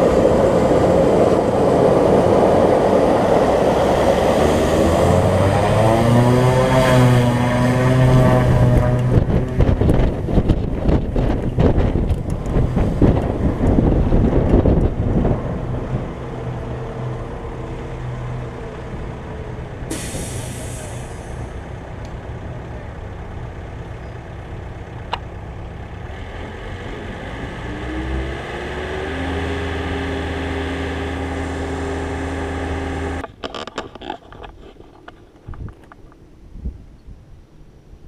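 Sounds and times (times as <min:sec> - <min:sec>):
turboprop engine droning: 0:00.0 - 0:34.6.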